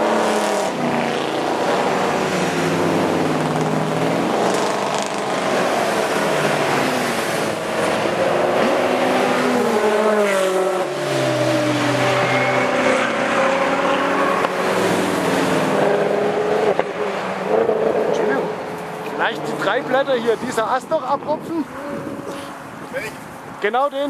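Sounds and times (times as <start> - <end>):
race cars passing at full throttle: 0.0 - 23.8.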